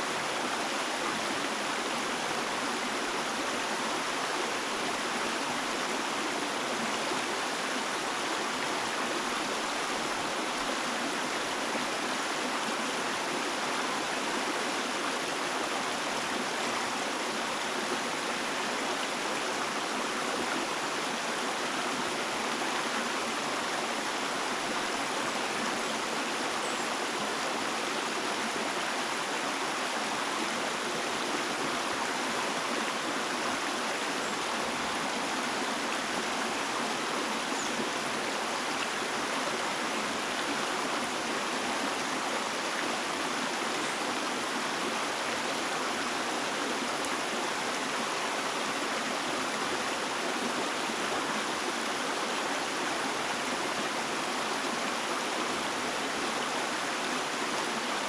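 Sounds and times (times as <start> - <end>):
stream water rushing and babbling: 0.0 - 58.0.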